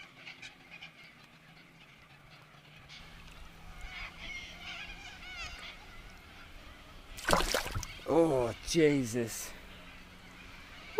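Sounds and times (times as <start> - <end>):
birds calling: 0.0 - 10.9.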